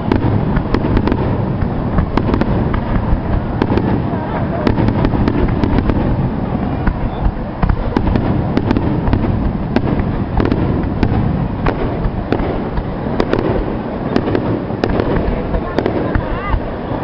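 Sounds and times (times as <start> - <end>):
firework cracks and pops: 0.0 - 17.0
fireworks booming: 0.0 - 17.0.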